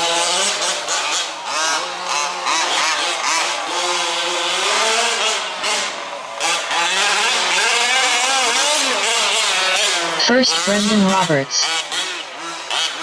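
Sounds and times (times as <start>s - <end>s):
rc truck engines revving: 0.0s - 13.0s.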